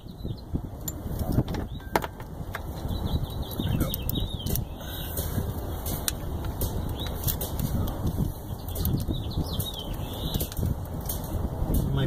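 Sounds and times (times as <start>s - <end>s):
bird chirping: 0.0s - 0.6s, 1.2s - 10.7s
steady low rumble: 0.0s - 12.0s.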